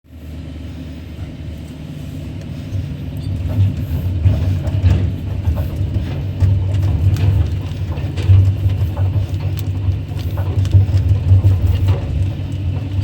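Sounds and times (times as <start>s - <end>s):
excavator diesel engine drone: 0.1s - 13.0s.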